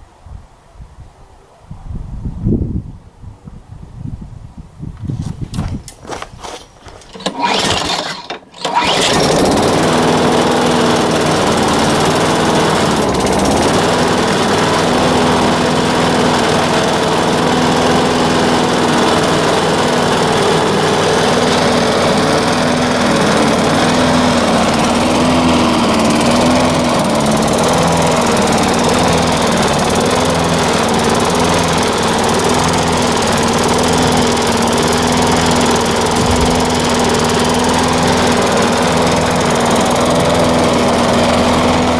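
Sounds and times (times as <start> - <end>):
lawnmower engine running: 5.2 - 41.9.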